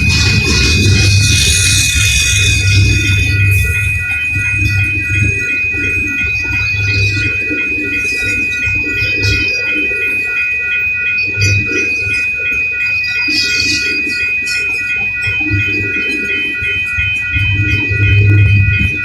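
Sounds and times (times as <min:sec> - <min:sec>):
railroad crossing bell ringing: 0:00.0 - 0:19.0
train cars rumbling and clattering: 0:00.0 - 0:19.0.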